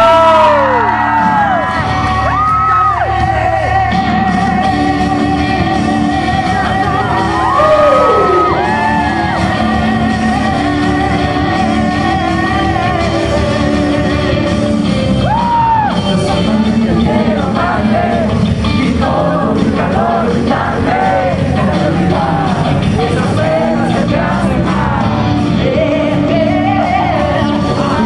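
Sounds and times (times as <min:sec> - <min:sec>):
pop accompaniment over pa: 0:00.0 - 0:28.0
person singing long notes: 0:02.6 - 0:28.0.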